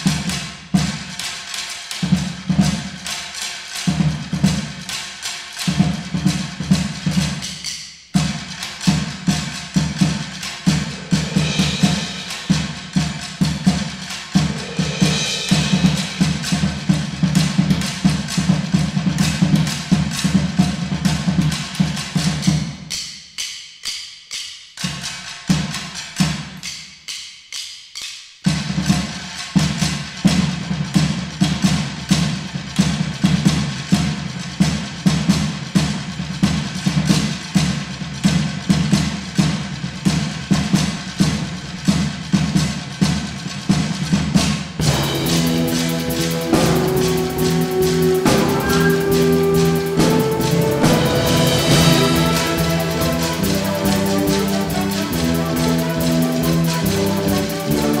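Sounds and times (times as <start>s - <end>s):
snare drum: 0.0s - 58.0s.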